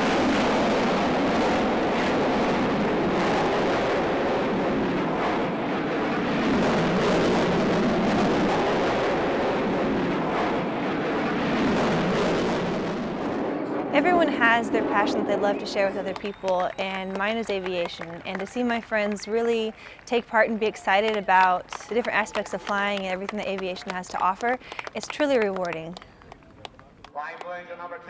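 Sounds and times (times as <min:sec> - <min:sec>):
jet engines overhead: 0:00.0 - 0:27.1.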